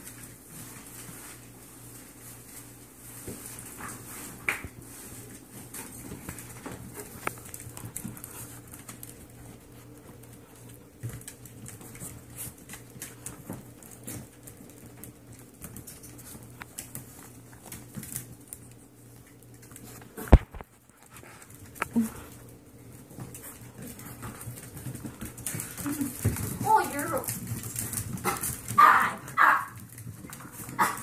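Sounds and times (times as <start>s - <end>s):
puppy claws clicking on wooden floor: 3.2s - 31.0s.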